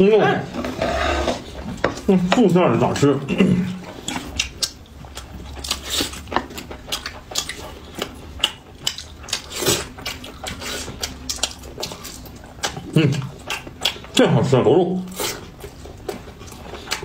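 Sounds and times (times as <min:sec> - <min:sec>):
chewing: 0:00.7 - 0:17.0.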